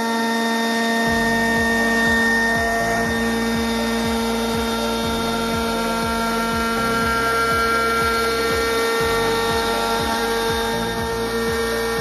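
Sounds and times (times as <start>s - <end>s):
bit cutting into wood: 0.0s - 12.0s
router spindle whining: 0.0s - 12.0s
low repeating pulse: 0.6s - 12.0s.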